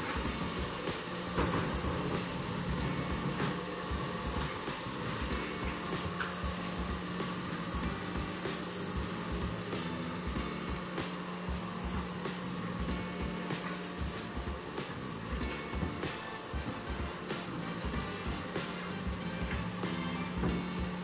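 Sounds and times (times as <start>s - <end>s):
high-pitched whine: 0.0s - 21.0s.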